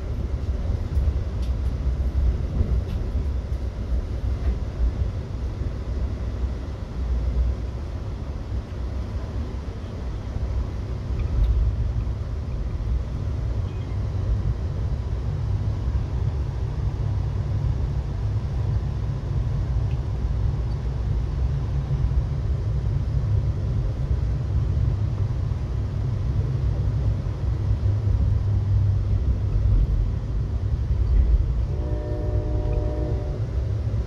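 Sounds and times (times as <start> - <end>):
passenger train rumbling: 0.0 - 34.0.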